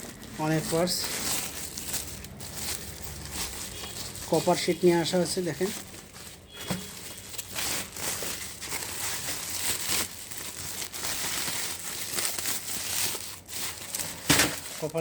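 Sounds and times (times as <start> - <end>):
copper sheet crinkling: 0.0 - 15.0.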